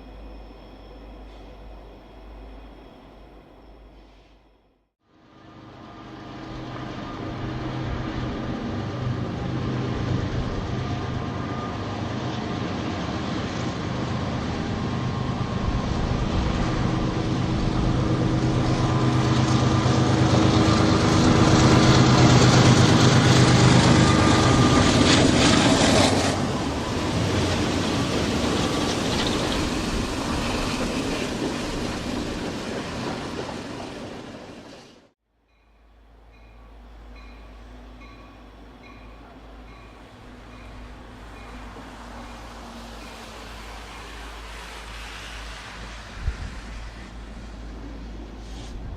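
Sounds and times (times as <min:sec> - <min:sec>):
diesel locomotive engines humming: 0:00.0 - 0:35.2, 0:35.8 - 0:48.9
train rumble: 0:05.2 - 0:48.9.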